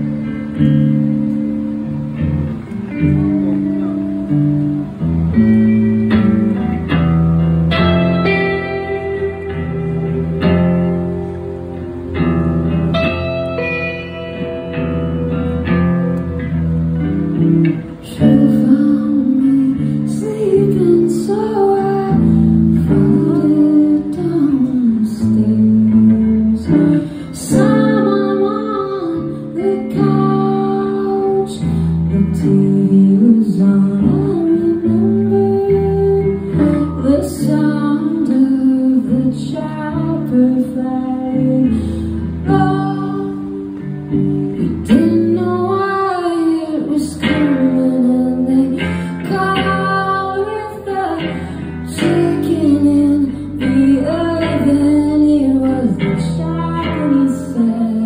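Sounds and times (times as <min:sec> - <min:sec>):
electric guitar: 0:00.0 - 0:58.0
woman singing lead vocal: 0:00.0 - 0:58.0.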